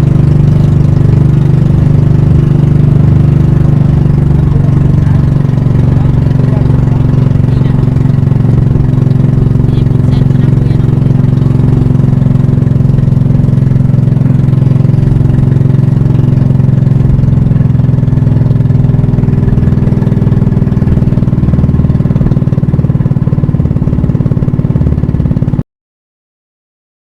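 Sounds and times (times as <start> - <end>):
boat engine running: 0.0 - 25.6.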